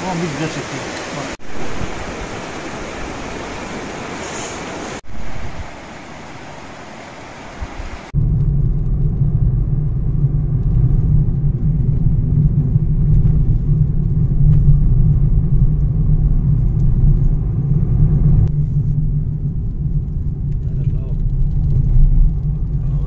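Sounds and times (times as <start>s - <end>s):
car interior road rumble: 0.0s - 23.0s.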